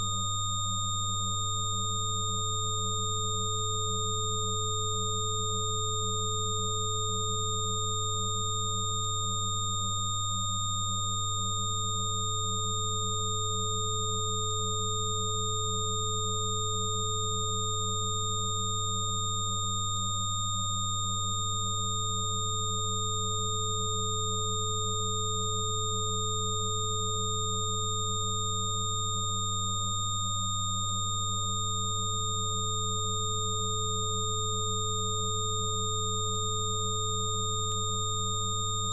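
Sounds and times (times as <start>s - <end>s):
deep sine tone hum: 0.0s - 38.9s.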